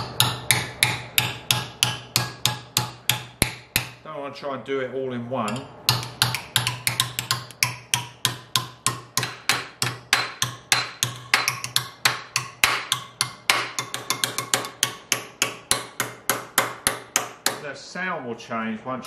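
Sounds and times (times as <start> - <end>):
hammer tapping sheet steel: 0.0 - 4.0, 5.4 - 17.8.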